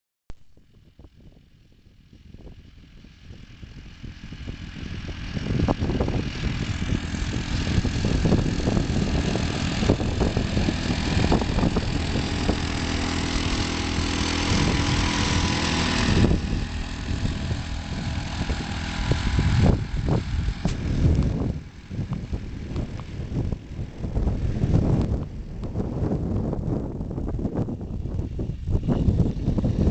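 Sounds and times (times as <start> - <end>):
small tractor engine running: 0.6 - 29.9.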